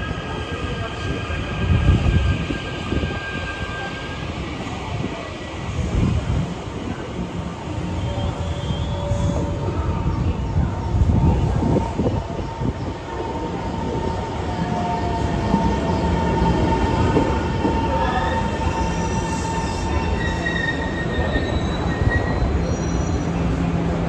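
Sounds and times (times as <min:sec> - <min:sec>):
electric train rumbling to a stop: 0:00.0 - 0:24.0.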